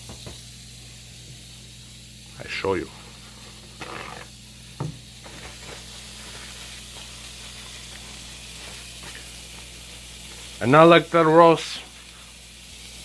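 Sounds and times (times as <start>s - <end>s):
steak sizzling on a grill: 0.0s - 13.0s.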